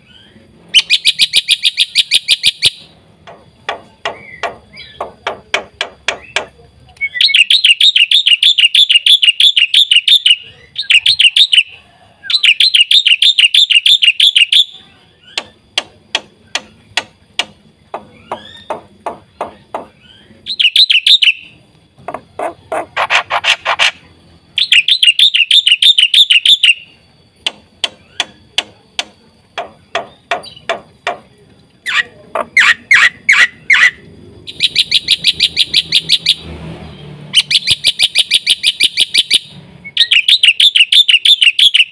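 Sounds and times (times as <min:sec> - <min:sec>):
starling singing: 0:00.0 - 0:41.9.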